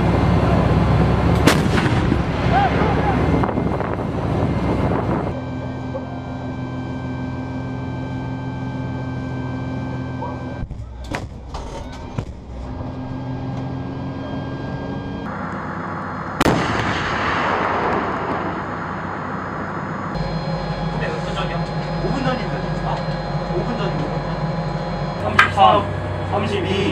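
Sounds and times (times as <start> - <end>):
howitzer shot with rumble: 0.0 - 13.0, 14.1 - 26.4
steady vehicle interior drone: 0.0 - 26.9.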